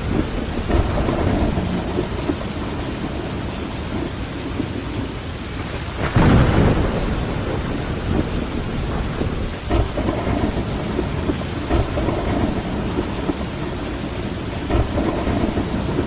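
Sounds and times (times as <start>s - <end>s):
rain on window glass: 0.0s - 16.0s.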